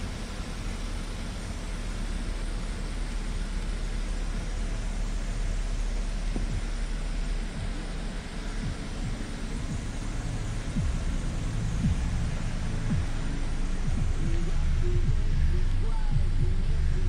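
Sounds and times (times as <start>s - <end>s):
room background rumble and hiss: 0.0s - 17.0s.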